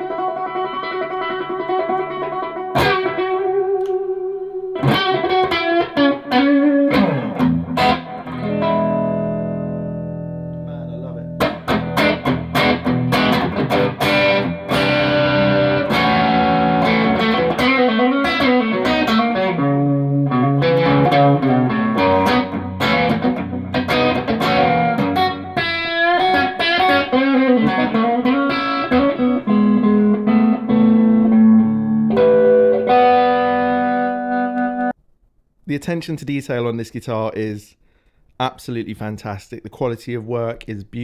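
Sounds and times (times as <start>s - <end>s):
electric guitar through an amp: 0.0s - 34.9s.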